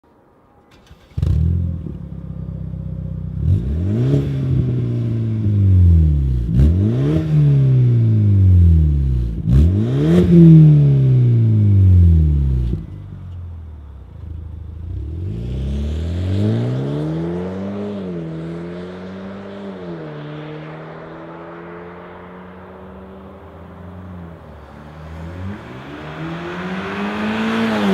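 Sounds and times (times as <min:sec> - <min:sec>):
car engine starting: 0:00.6 - 0:27.9
car engine idling and revving: 0:00.7 - 0:27.9.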